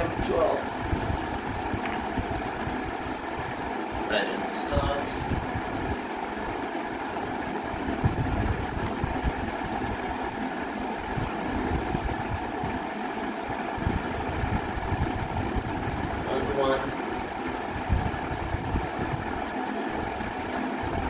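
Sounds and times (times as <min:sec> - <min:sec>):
machine-like hum: 0:00.0 - 0:21.0.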